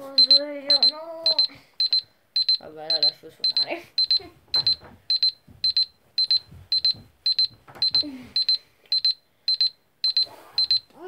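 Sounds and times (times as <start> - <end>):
electronic alarm beeping: 0.1 - 10.9.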